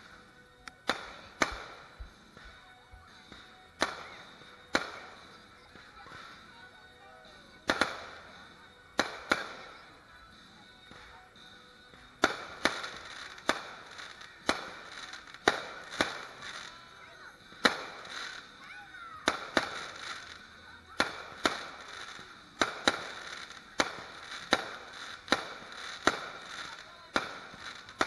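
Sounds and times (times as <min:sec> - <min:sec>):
fireworks bursting with echo: 0:00.0 - 0:28.0.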